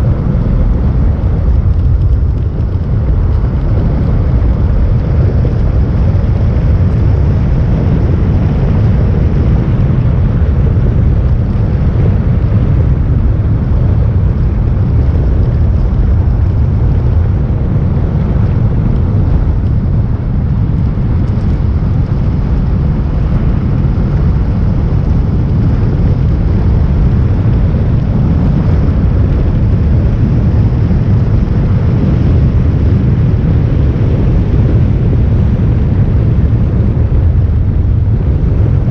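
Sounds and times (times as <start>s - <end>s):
vehicle road and engine rumble: 0.0s - 38.9s
wind buffeting microphone: 0.0s - 38.9s.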